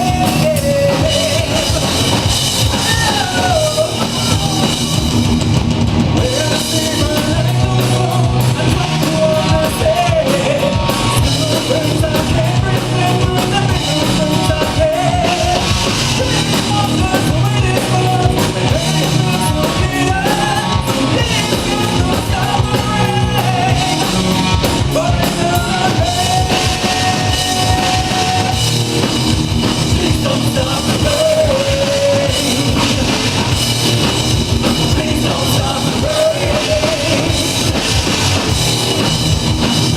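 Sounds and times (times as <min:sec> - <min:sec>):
person singing: 0:00.0 - 0:05.1, 0:06.2 - 0:28.7, 0:29.8 - 0:33.5, 0:34.7 - 0:38.0
drum kit: 0:00.0 - 0:39.9
rock band playing: 0:00.0 - 0:39.9.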